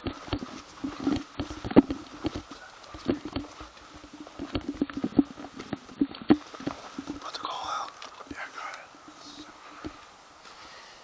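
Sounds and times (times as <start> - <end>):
running footsteps on ground: 0.0 - 11.0.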